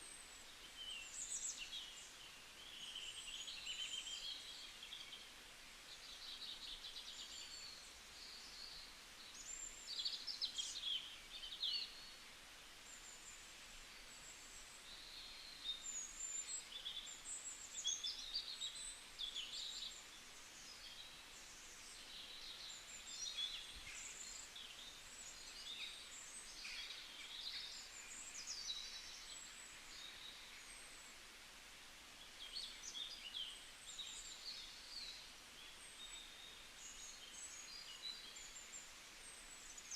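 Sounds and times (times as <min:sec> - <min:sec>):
faint background hiss: 0:00.0 - 0:39.9
songbirds singing and chirping: 0:00.0 - 0:39.9.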